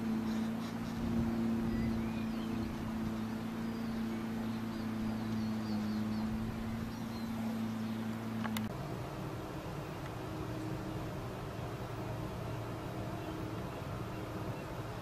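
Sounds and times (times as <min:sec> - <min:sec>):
low hum: 0:00.0 - 0:15.0
songbirds chirping: 0:00.0 - 0:15.0.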